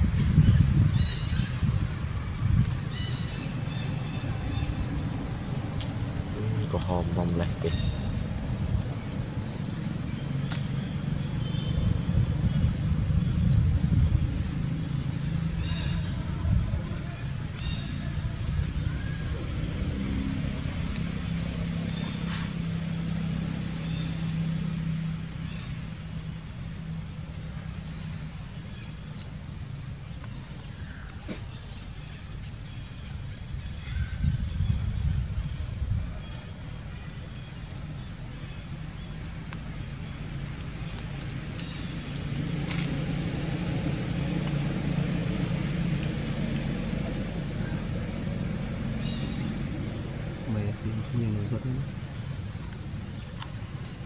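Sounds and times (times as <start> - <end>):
vehicle engine hum: 0.0 - 54.0.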